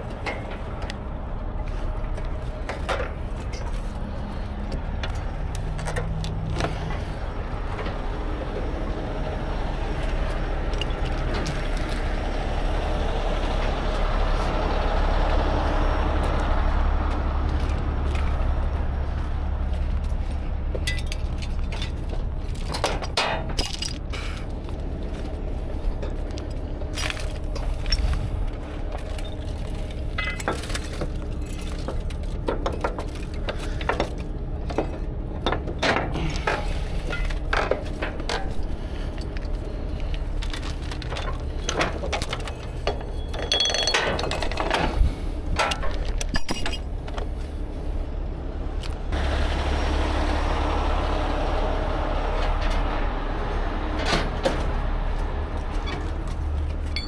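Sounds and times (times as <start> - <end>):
tow chain clinking and rattling: 0.0 - 48.0, 52.3 - 57.0
low engine hum: 0.0 - 57.0.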